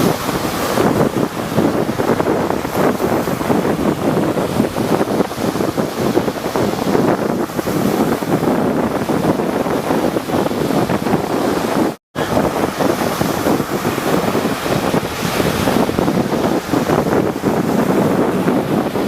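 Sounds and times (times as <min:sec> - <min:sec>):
sea waves breaking: 0:00.0 - 0:19.0
wind buffeting microphone: 0:00.0 - 0:19.0.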